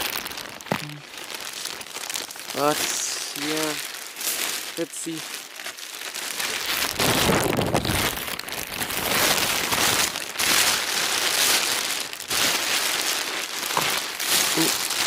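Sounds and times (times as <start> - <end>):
rain pattering on plastic bag: 0.0 - 15.0.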